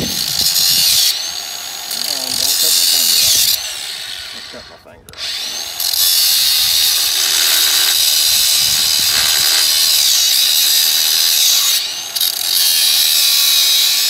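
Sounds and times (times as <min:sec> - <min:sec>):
angle grinder cutting steel: 0:00.0 - 0:14.0.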